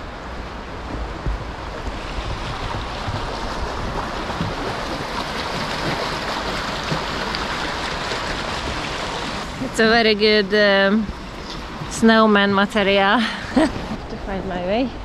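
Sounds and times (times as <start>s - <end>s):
stream rushing: 0.0s - 15.0s
wind rumble on microphone: 0.0s - 15.0s.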